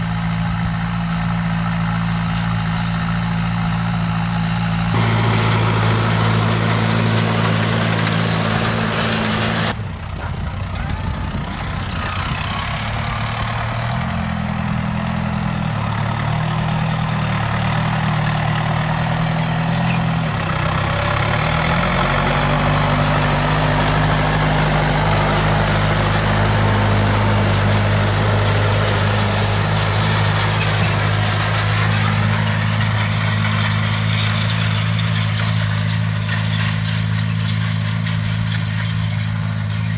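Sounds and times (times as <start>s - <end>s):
tractor diesel engine drone: 0.0s - 39.9s.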